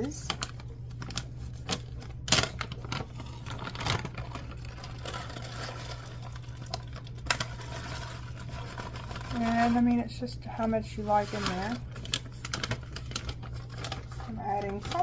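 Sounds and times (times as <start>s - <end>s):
packaging rustling and crinkling: 0.0s - 15.0s
steady low hum: 0.0s - 15.0s.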